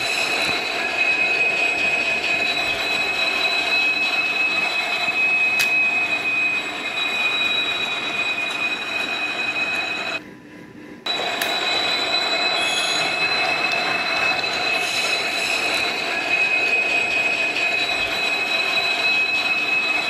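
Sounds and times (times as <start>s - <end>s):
train wheel squeal: 0.0s - 10.2s, 11.1s - 20.0s
train rumble: 0.0s - 20.0s.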